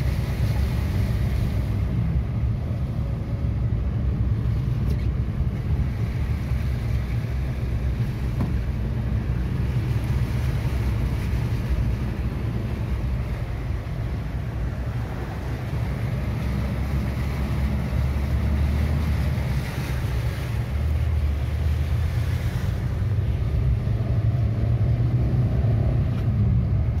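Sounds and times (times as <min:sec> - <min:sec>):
car engine and road rumble: 0:00.0 - 0:27.0
water swishing under tyres: 0:00.0 - 0:27.0.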